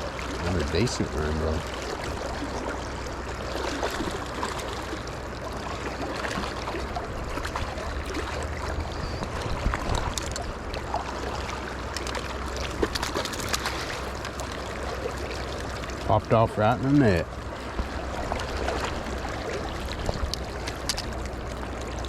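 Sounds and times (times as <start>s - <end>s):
river water over rocks: 0.0s - 22.0s.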